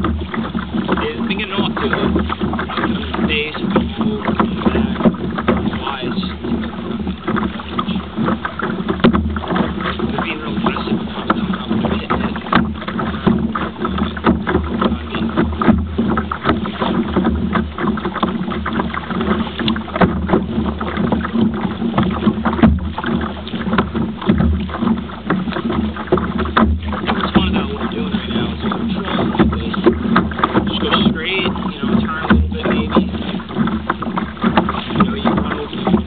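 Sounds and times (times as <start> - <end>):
water slapping against kayak hull: 0.0 - 36.0
wind: 0.0 - 36.0.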